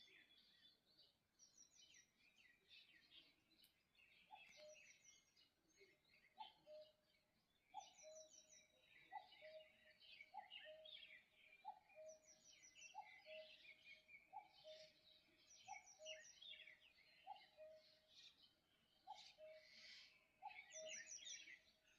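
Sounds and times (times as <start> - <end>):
small birds chirping and trilling: 0.0 - 21.9.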